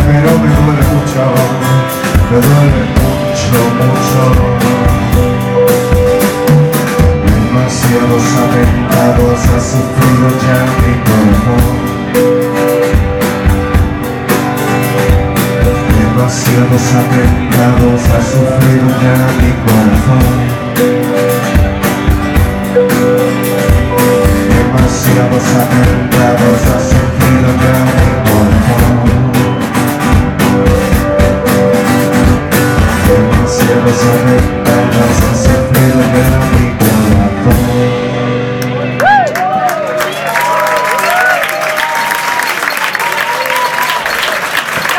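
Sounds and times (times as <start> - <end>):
drums and cymbals: 0.0 - 39.2
guitar: 0.0 - 44.0
live rock band playing: 0.0 - 44.9.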